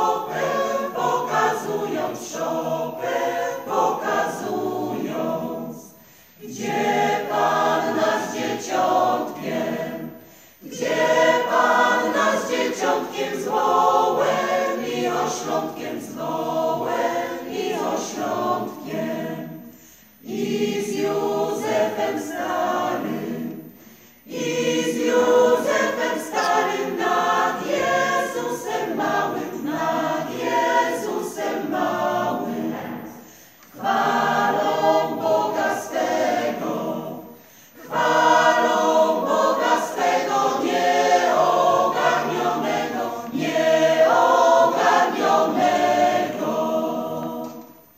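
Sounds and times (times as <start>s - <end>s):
mixed choir singing a cappella: 0.0s - 47.9s.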